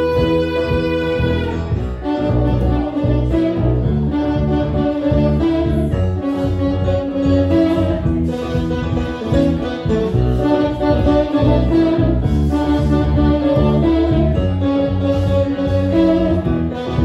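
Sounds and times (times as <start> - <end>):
electric bass guitar: 0.0 - 17.0
keyboard piano: 0.0 - 17.0
saxophone: 0.0 - 17.0.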